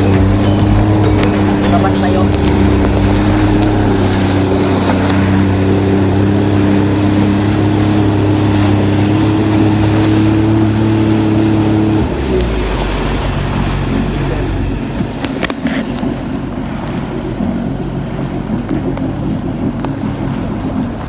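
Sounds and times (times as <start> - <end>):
jet ski engine running: 0.0 - 21.0
water rushing: 0.0 - 21.0.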